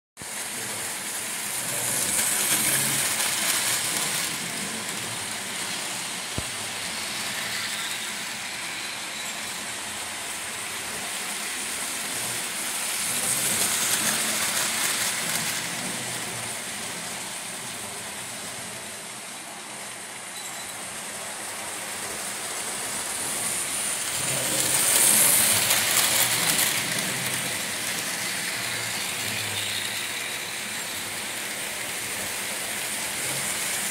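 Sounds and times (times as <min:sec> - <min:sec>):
model trains rolling on track: 0:00.2 - 0:33.9.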